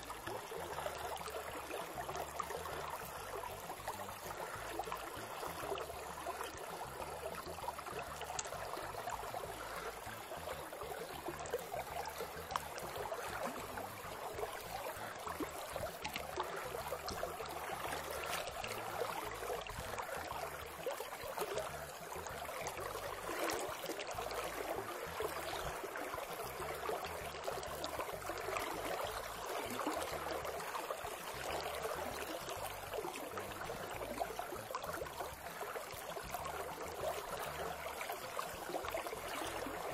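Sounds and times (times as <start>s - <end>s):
shallow river flowing: 0.0s - 39.9s.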